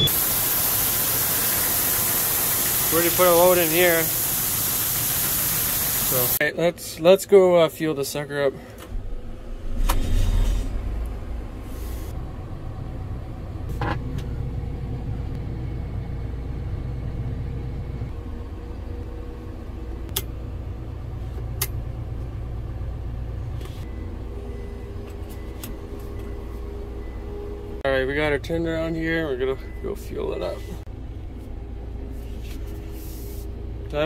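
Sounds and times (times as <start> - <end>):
diesel engine rumble: 0.0 - 34.0.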